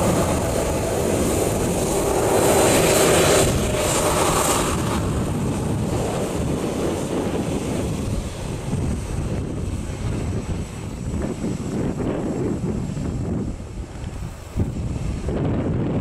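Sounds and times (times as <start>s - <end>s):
jet engines taxiing: 0.0s - 16.0s.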